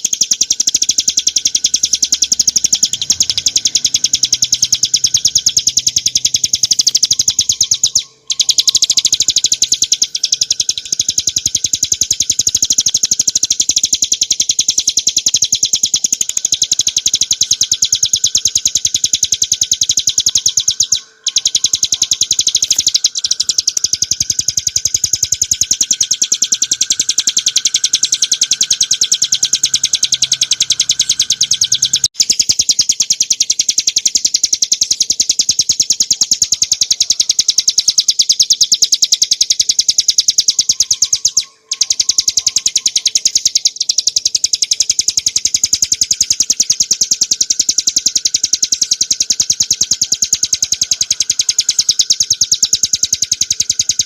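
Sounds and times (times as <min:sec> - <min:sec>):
bird fast trilling song: 0:00.0 - 0:54.0.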